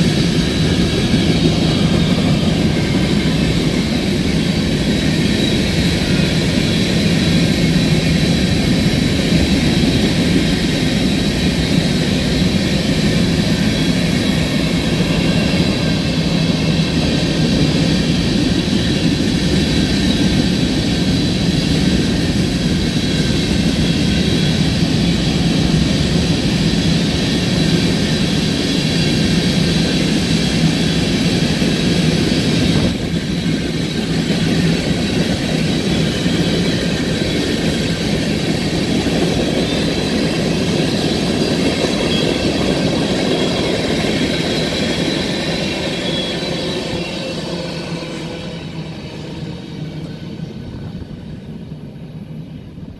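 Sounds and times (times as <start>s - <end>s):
freight train wheels clattering: 0.0s - 51.6s.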